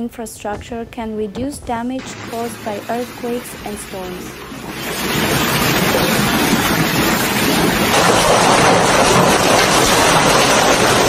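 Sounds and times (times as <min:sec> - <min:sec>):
heavy hail falling: 0:02.0 - 0:11.0.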